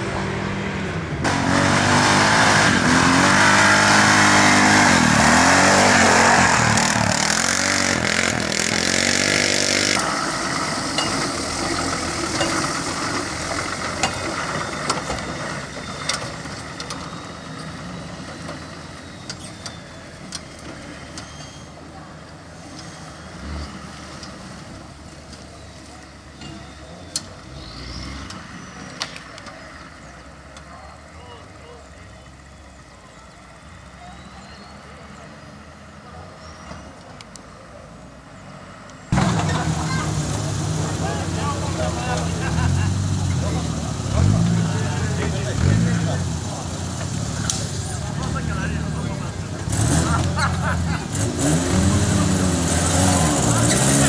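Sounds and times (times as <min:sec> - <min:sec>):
off-road engine revving: 0:00.0 - 0:21.2, 0:22.6 - 0:31.0, 0:39.0 - 0:54.0
engine running low: 0:00.0 - 0:54.0.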